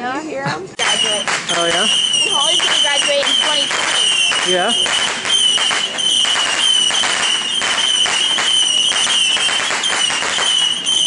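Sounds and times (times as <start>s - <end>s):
fireworks crackling and popping: 0.7s - 11.0s.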